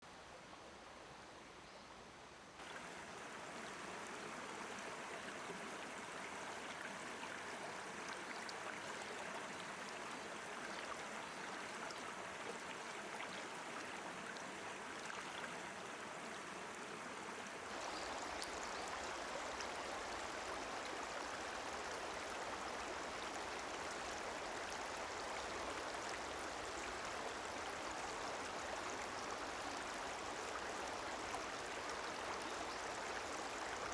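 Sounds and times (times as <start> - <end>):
stream water rushing: 2.6 - 33.9.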